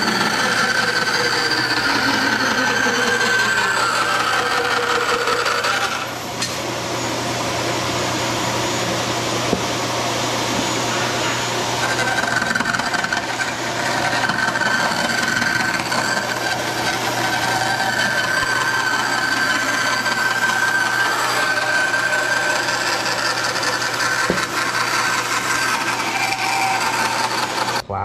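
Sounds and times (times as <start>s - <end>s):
band saw blade rasping: 0.0s - 6.5s, 11.7s - 27.8s
motor humming: 0.0s - 27.8s
high saw whine: 0.0s - 28.0s.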